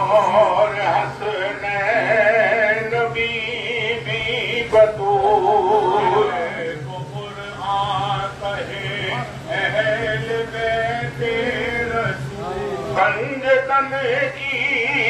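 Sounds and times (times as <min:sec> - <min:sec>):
man singing unaccompanied: 0:00.0 - 0:15.0
steady low hum: 0:00.0 - 0:15.0.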